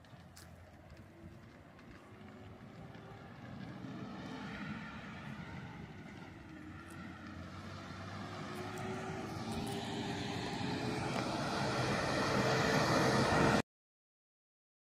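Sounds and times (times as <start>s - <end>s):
vehicle engine and tyres: 0.0s - 13.6s.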